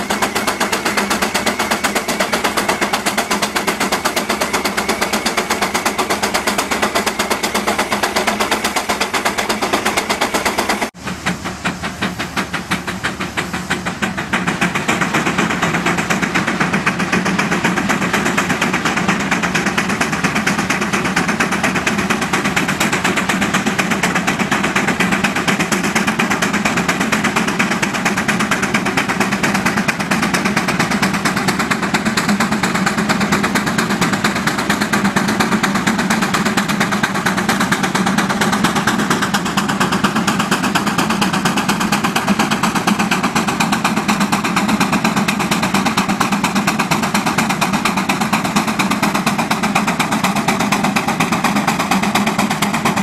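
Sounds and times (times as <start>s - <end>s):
farm engine exhaust beat: 0.0s - 53.0s
steam traction engine exhaust: 0.0s - 53.0s.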